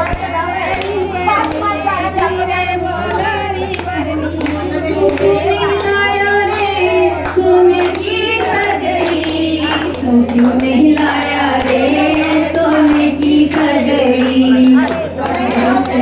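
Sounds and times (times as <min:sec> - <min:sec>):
hand claps: 0:00.0 - 0:16.0
women singing together: 0:00.0 - 0:16.0.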